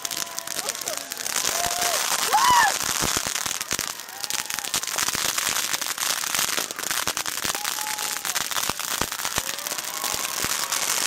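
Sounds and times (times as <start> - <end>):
fireworks crackling: 0.0 - 11.0
sharp firework cracks: 0.0 - 11.0.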